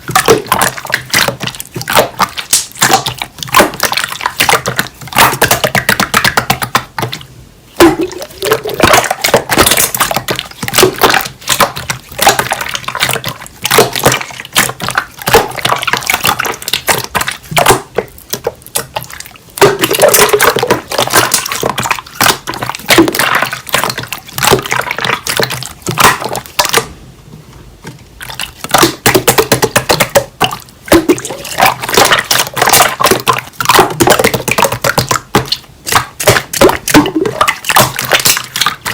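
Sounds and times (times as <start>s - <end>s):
slime squelching and popping: 0.0s - 26.9s, 28.2s - 38.9s.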